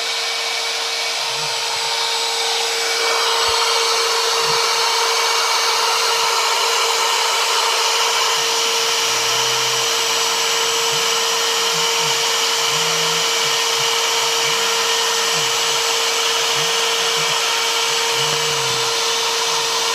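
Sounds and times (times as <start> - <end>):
router spindle cutting wood: 0.0 - 19.9
stepper motors humming: 0.0 - 19.9.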